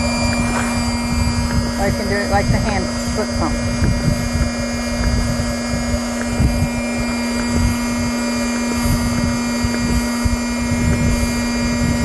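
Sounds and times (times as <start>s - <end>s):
electric motor humming: 0.0s - 12.0s
hand air pump thumps and air rush: 0.0s - 12.0s.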